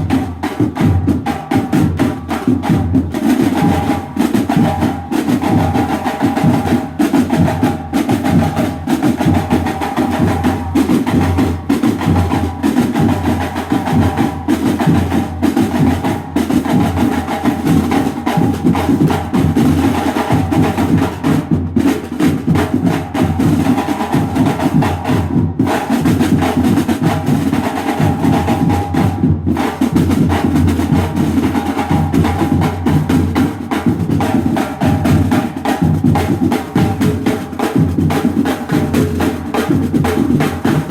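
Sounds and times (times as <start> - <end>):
bass drum: 0.0 - 40.9.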